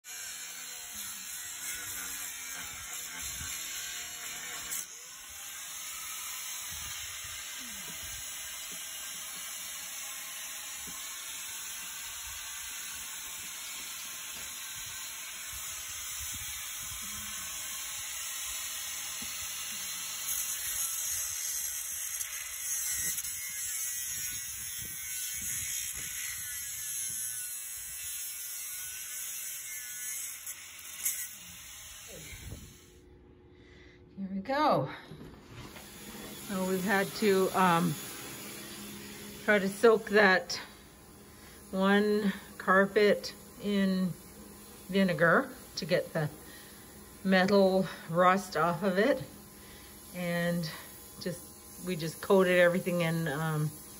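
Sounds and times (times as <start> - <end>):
grinder grinding metal: 0.0 - 33.1, 35.7 - 53.9.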